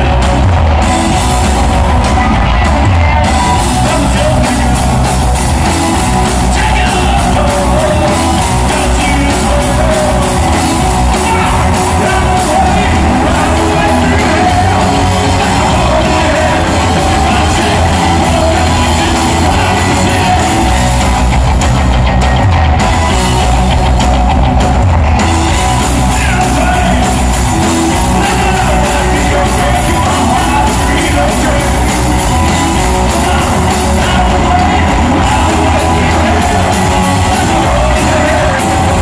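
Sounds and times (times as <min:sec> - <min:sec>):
bass guitar: 0:00.0 - 0:39.0
drum kit: 0:00.0 - 0:39.0
electric guitars: 0:00.0 - 0:39.0.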